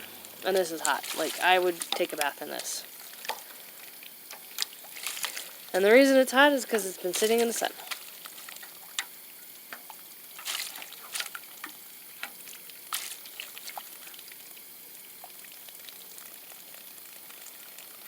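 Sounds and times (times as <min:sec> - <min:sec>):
water splashes and drips: 0:00.0 - 0:18.0
water pouring onto soil: 0:00.1 - 0:09.2, 0:10.3 - 0:18.0.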